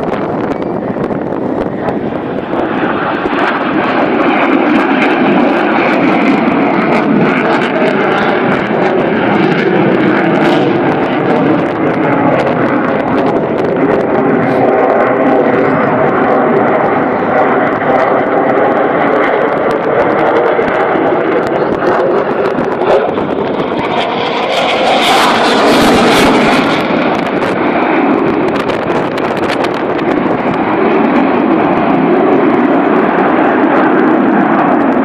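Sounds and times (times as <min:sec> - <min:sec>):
aircraft engine: 0:00.0 - 0:35.0.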